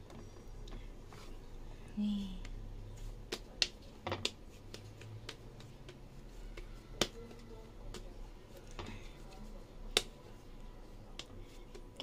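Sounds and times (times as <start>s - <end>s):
hands working sticky dough: 0.0s - 12.0s.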